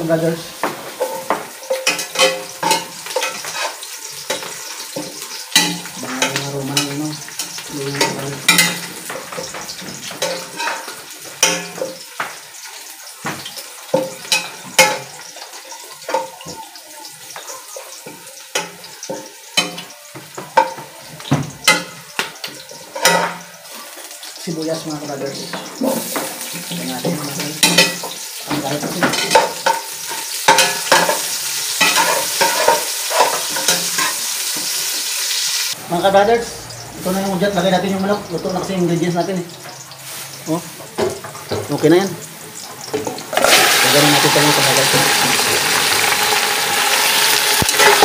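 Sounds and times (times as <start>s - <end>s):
ginger and garlic sizzling in oil: 0.0s - 48.0s.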